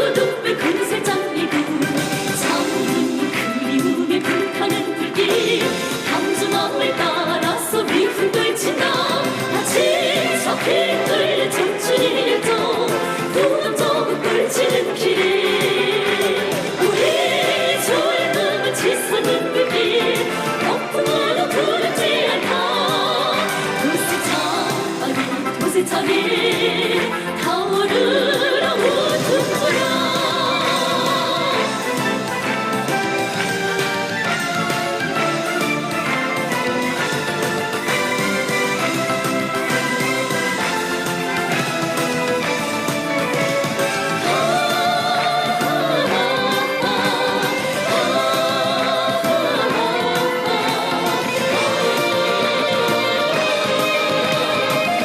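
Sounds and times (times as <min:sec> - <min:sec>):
band accompaniment: 0:00.0 - 0:55.0
women singing with vibrato: 0:00.0 - 0:55.0.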